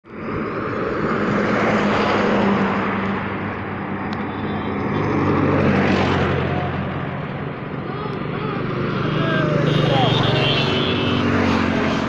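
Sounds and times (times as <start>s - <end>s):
wind and road noise: 0.0s - 12.0s
motorcycle engine drone: 0.1s - 12.0s
truck passing: 0.1s - 12.0s.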